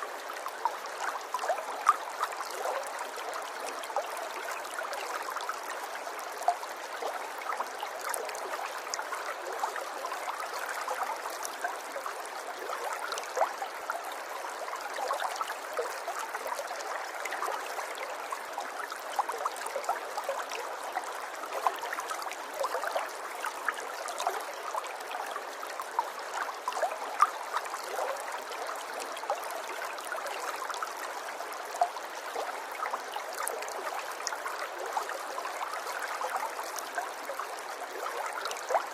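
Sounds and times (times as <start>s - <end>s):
river water trickling and gurgling: 0.0s - 38.9s.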